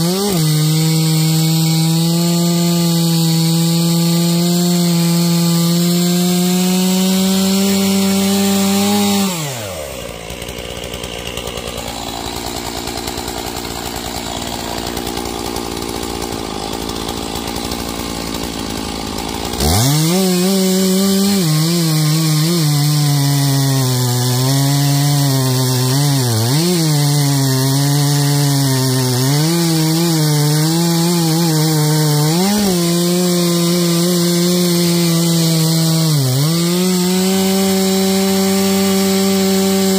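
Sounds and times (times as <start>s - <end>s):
chainsaw cutting logs: 0.0s - 39.9s
chainsaw revving and idling: 0.0s - 39.9s.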